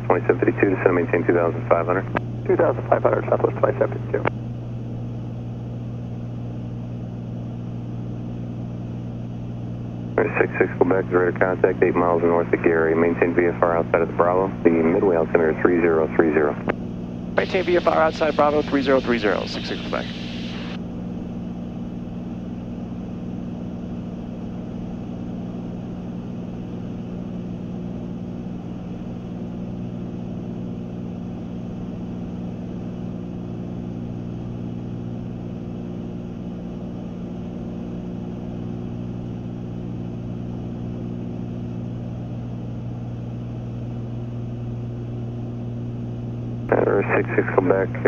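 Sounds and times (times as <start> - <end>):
aircraft engines droning in cabin: 0.0 - 48.0.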